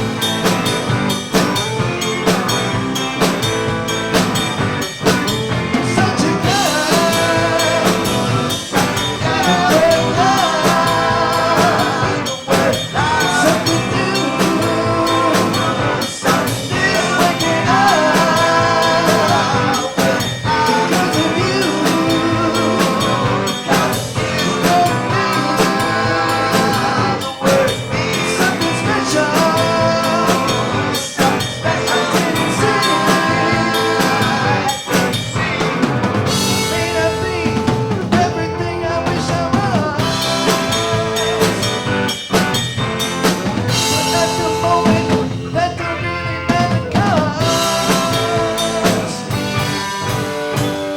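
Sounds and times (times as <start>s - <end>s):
amplified instruments: 0.0s - 50.9s
drum kit: 0.0s - 50.9s
person singing: 5.3s - 42.4s, 43.6s - 50.1s.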